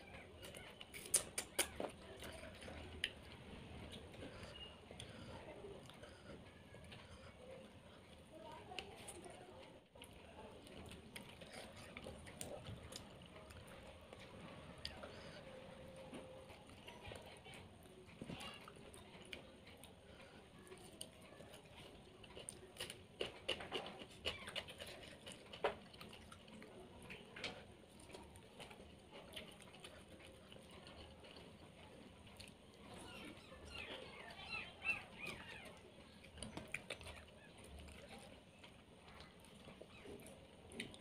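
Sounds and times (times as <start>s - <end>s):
person chewing and lip smacking: 0.0s - 41.0s
small clicks and crackles: 0.0s - 41.0s.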